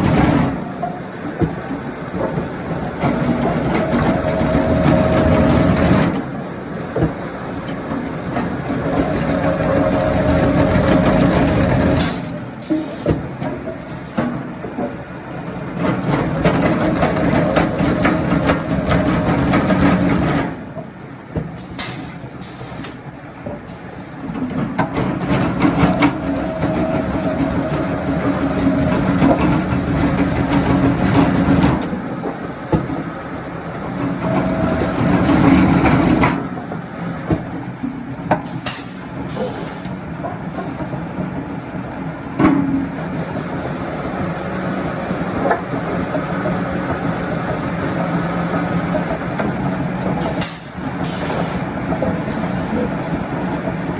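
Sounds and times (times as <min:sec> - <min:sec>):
wood-processing machinery humming: 0:00.0 - 0:53.9.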